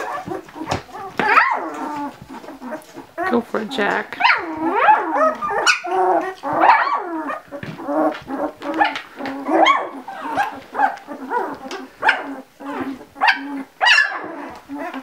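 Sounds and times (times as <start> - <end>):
puppy whining and squealing: 0.0 - 3.4, 4.2 - 15.0.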